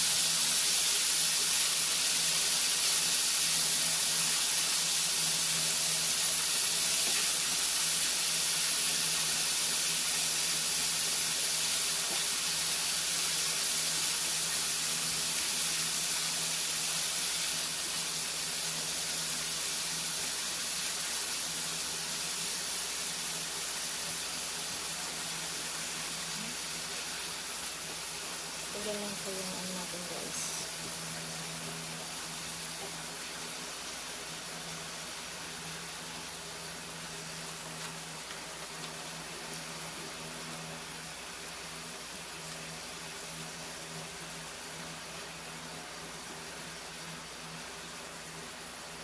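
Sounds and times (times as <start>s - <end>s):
faint steady hum: 0.0s - 49.0s
meat sizzling in a pan: 0.0s - 49.0s.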